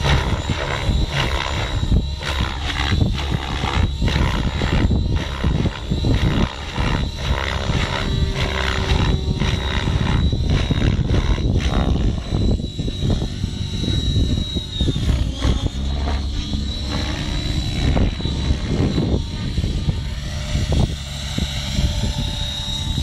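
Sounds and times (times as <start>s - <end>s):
high motor whine: 0.0s - 23.0s
rotor blades whooshing: 0.0s - 23.0s.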